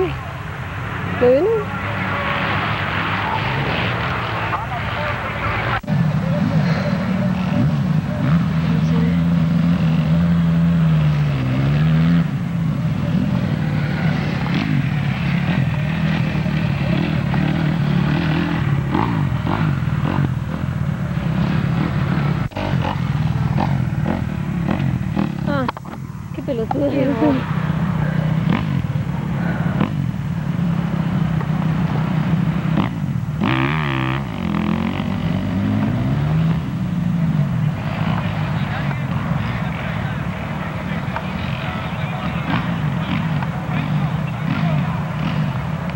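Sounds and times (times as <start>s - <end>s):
motorcycle engines racing: 0.0s - 45.9s.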